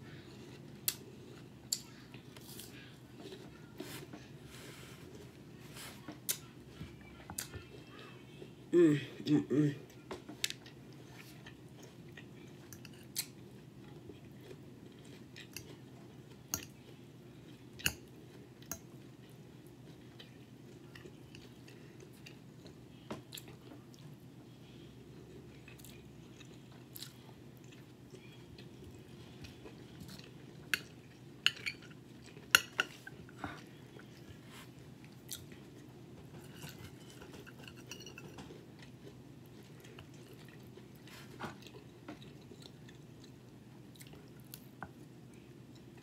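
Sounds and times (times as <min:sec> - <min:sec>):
low steady hum: 0:00.0 - 0:46.0
person chewing: 0:00.1 - 0:04.1, 0:10.4 - 0:24.2, 0:25.0 - 0:46.0.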